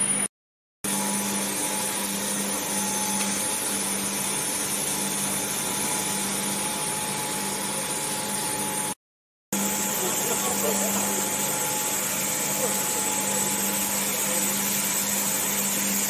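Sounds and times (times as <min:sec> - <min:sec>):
constant machine hum: 0:00.9 - 0:09.0, 0:09.6 - 0:16.0.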